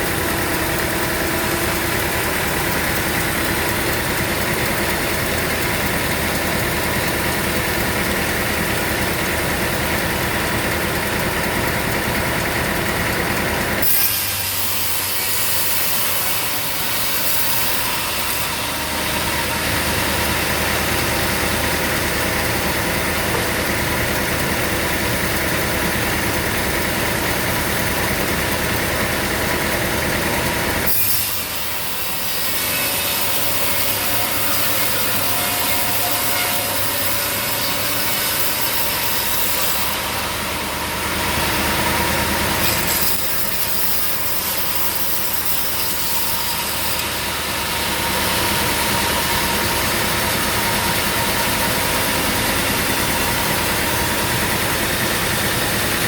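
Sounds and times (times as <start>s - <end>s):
engine drone: 0.0s - 14.7s, 15.7s - 56.0s
saw blade cutting log: 0.0s - 56.0s.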